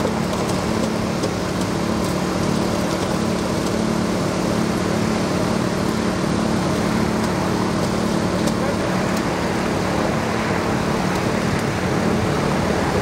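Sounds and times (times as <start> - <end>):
small engine droning: 0.0 - 13.0.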